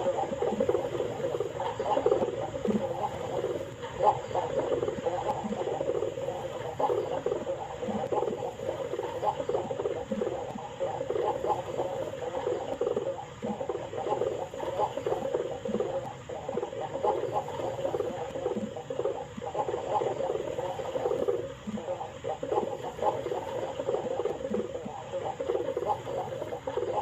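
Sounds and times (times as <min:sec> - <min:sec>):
pigeon cooing: 0:00.0 - 0:27.0.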